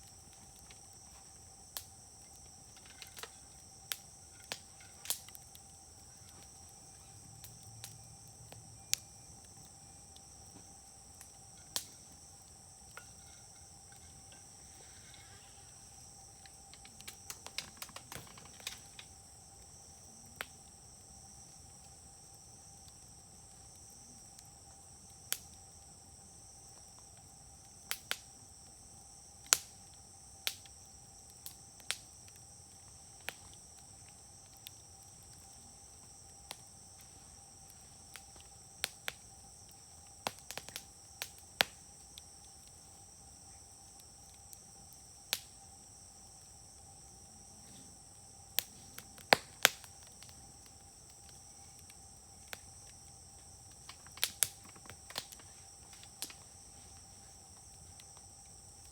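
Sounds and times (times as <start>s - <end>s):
insects chirring: 0.0s - 58.9s
sharp pops of burning wood: 0.0s - 58.9s
wood fire crackling: 0.0s - 58.9s.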